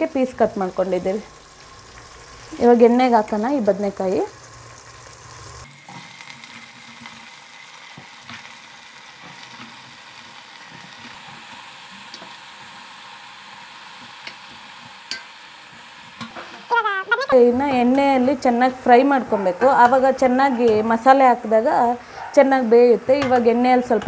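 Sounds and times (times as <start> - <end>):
vegetables sizzling in hot oil: 0.0 - 22.1.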